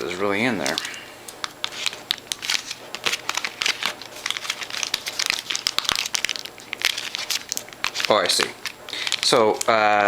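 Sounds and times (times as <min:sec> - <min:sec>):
film package crinkling: 0:00.0 - 0:10.0.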